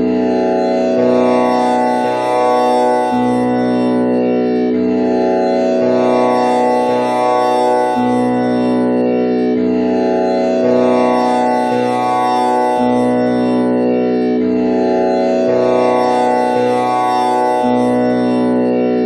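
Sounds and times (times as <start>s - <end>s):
buzzing drone hum: 0.0s - 19.0s.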